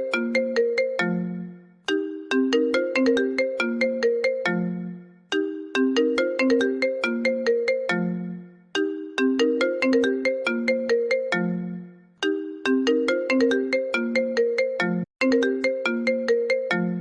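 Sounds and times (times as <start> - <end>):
phone message ringtone: 0.0 - 17.0.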